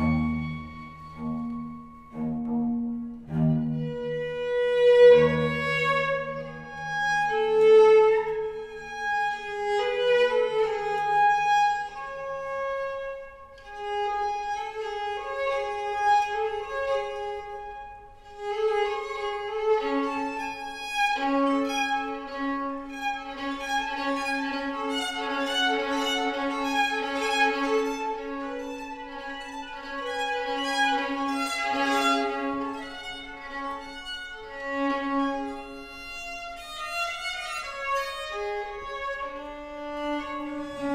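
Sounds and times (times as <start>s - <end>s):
violin melody: 0.0s - 40.9s.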